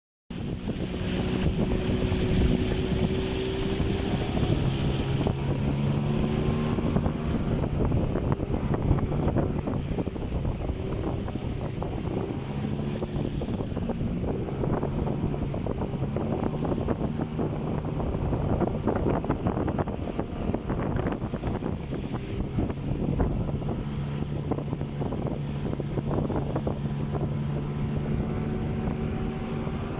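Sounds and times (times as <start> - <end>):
motorboat engine running: 0.3 - 29.9
wind buffeting microphone: 0.3 - 29.9.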